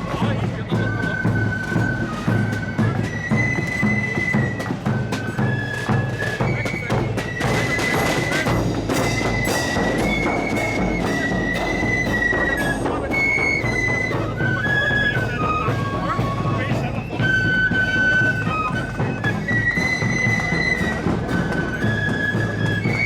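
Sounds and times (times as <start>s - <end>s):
shrill flute melody: 0.0s - 23.0s
snare and bass drum beats: 0.0s - 23.0s.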